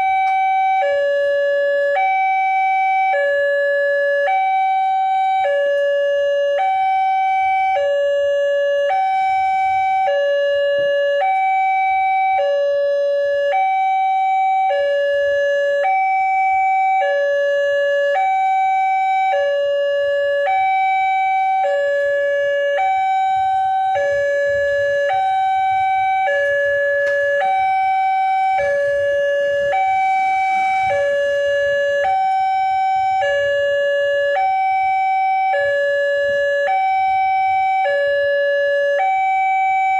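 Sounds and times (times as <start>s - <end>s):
hi-lo warning siren: 0.0s - 39.9s.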